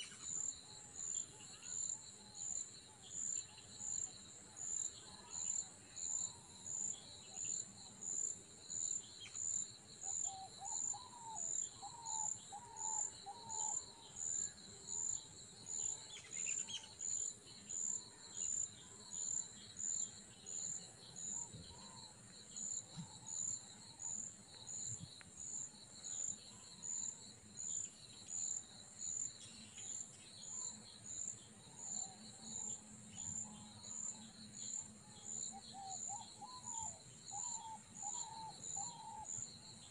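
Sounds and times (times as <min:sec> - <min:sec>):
insects steady high buzz: 0:00.0 - 0:39.9.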